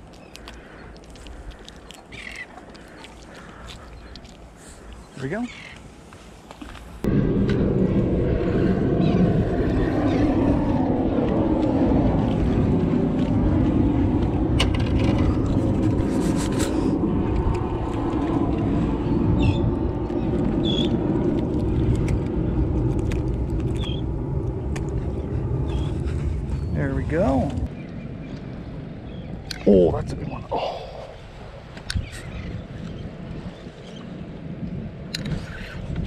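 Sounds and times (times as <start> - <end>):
wind buffeting microphone: 6.9 - 36.0.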